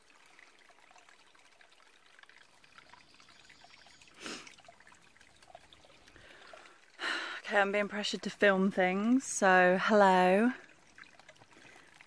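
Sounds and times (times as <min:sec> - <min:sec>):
creek trickling: 0:00.0 - 0:12.0
water ticks: 0:00.0 - 0:12.0.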